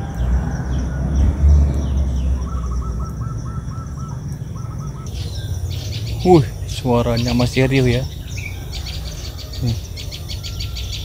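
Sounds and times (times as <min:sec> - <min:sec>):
wild birds chirping: 0:00.0 - 0:11.0.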